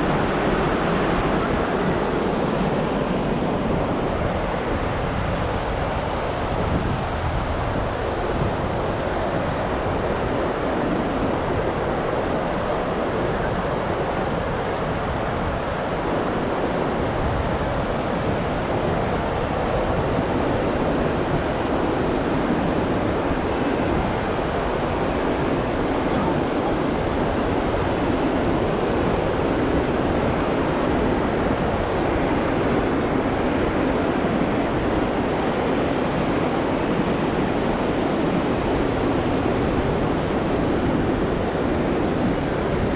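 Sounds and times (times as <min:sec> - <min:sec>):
ocean surf washing ashore: 0:00.0 - 0:42.9
wind buffeting microphone: 0:00.0 - 0:42.9.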